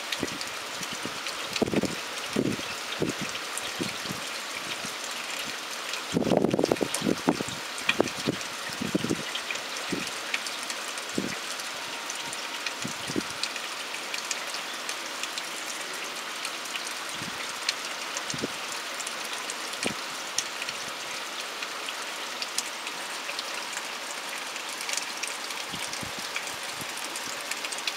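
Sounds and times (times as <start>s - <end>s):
dull drips: 0.0s - 27.9s
steady rain falling: 0.0s - 27.9s.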